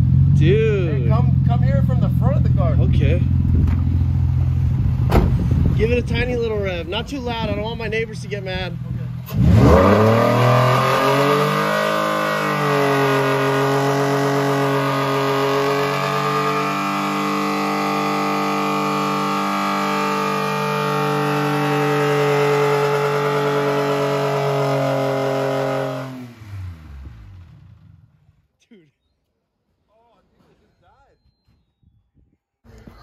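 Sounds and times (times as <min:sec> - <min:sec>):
car engine revving: 0:00.0 - 0:28.4.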